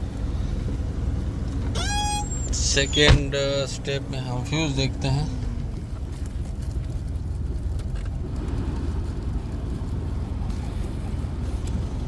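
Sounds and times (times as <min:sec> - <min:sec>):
low machinery rumble: 0:00.0 - 0:12.0.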